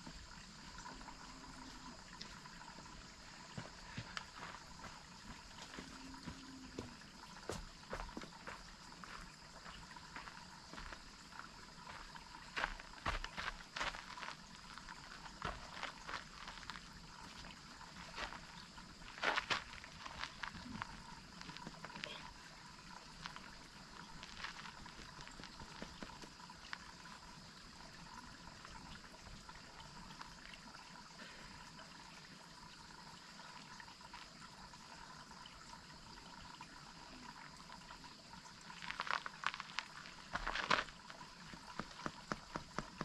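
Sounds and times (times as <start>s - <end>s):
waterfall running: 0.0s - 43.0s.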